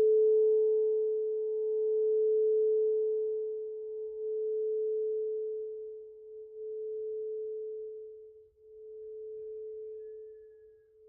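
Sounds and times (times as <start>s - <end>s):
singing bowl tone: 0.0s - 11.0s.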